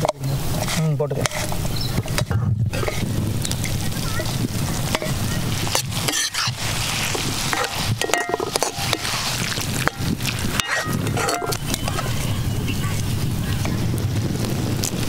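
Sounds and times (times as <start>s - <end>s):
spoon scraping iron pan: 0.0s - 12.3s
frying sizzle: 0.0s - 15.0s.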